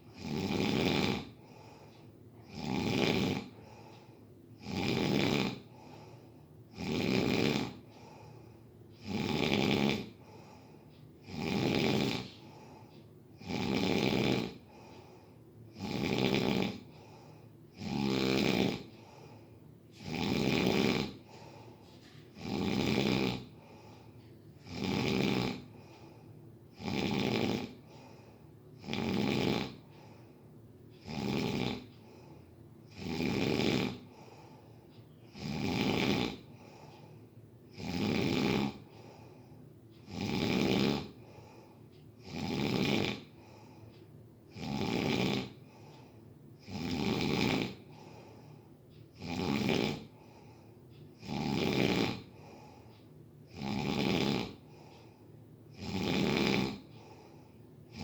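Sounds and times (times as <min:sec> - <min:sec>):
person snoring: 0:00.0 - 0:30.3, 0:31.0 - 0:43.8, 0:44.5 - 0:52.9, 0:53.5 - 0:58.0.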